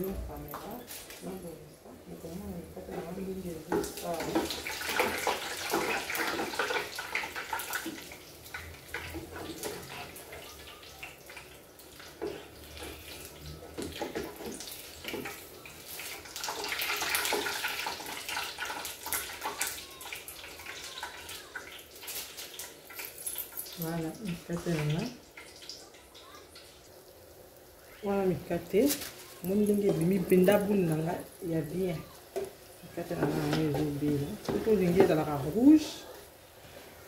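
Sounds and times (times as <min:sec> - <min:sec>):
dough deep-frying in sizzling oil: 0:00.0 - 0:37.0.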